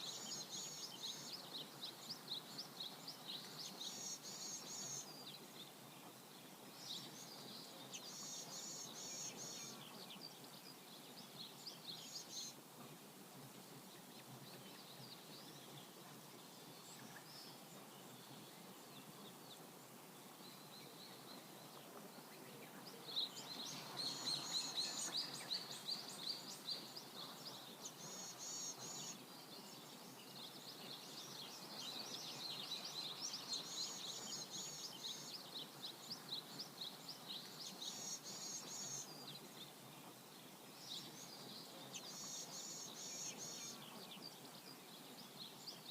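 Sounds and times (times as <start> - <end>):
small birds chirping: 0.0 - 45.9
steady background hiss: 0.0 - 45.9.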